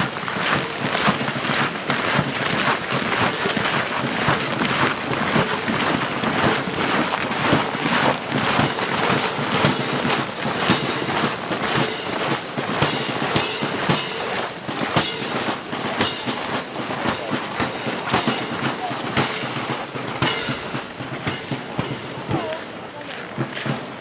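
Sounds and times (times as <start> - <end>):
boots marching on packed snow: 0.0 - 24.0.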